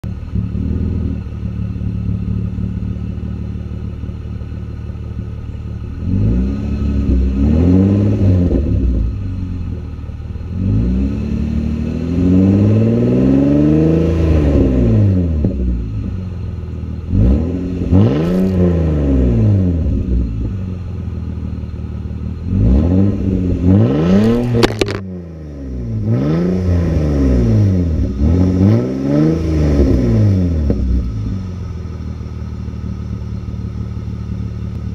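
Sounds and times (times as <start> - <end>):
car engine idling: 0.0 - 13.1, 13.8 - 34.9
car engine revving: 0.0 - 34.9.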